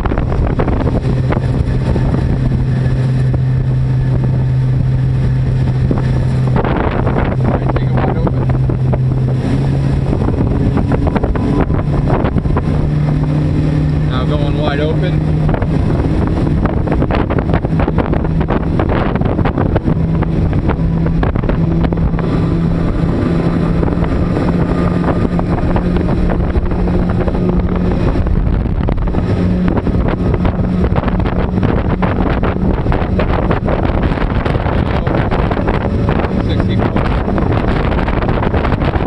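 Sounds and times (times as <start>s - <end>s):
outboard engines droning: 0.0s - 39.0s
water rushing past hull: 0.0s - 39.0s
wind buffeting microphone: 0.0s - 39.0s.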